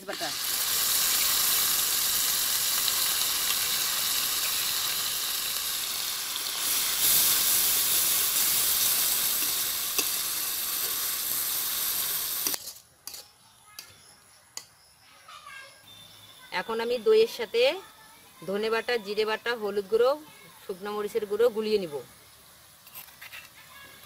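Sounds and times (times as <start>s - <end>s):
onion paste sizzling in oil: 0.0s - 24.0s.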